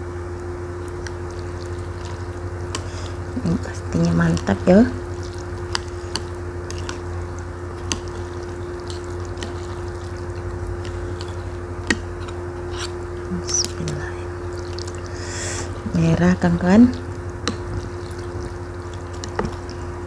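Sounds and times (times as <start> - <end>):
steady low hum: 0.0 - 20.0
wet stirring: 0.8 - 20.0.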